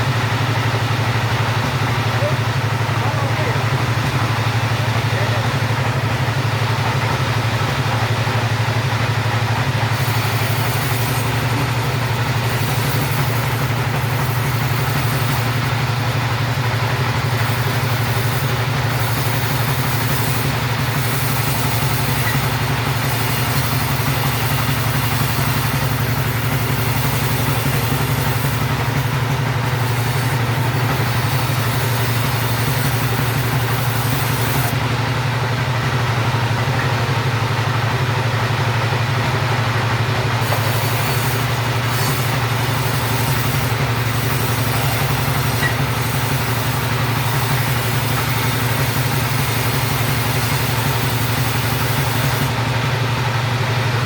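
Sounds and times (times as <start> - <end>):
chainsaw running: 0.0 - 54.0.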